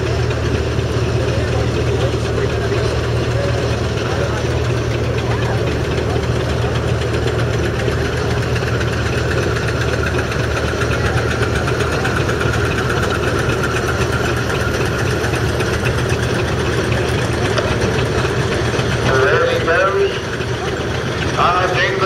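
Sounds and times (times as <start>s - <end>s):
steam roller engine running: 0.0s - 22.0s.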